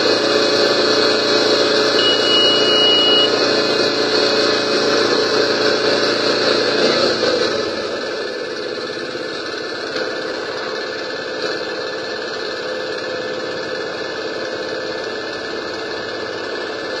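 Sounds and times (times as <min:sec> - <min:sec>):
engine-like drone idling: 0:00.0 - 0:17.0.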